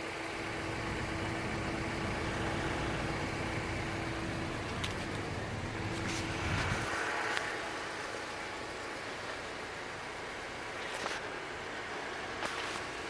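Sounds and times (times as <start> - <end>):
car engine running: 0.0 - 13.0
faint steady hum: 0.0 - 13.0.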